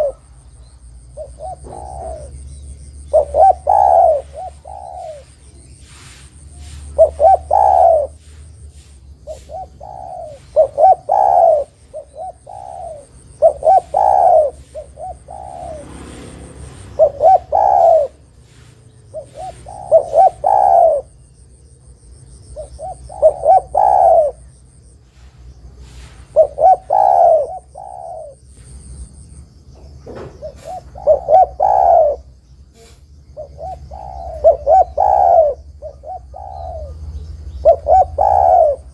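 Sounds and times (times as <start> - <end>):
dove cooing: 0.0 - 0.3, 1.0 - 21.2, 22.4 - 24.6, 25.2 - 28.8, 30.0 - 38.9.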